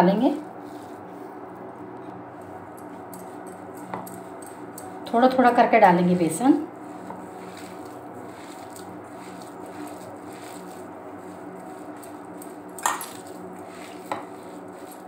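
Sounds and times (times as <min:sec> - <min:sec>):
steady low hum: 0:00.0 - 0:15.0
hands mixing food in a bowl: 0:00.6 - 0:15.0.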